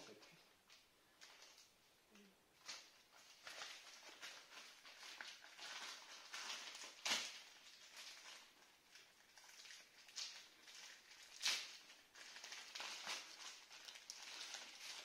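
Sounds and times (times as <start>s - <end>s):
packaging rustling and crinkling: 0.0s - 1.9s, 2.5s - 15.0s.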